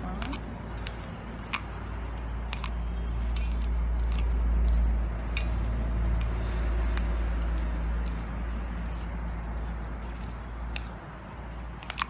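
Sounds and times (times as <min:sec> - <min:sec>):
steady low rumble: 0:00.0 - 0:12.0
chopsticks tapping steel bowl: 0:00.1 - 0:11.0.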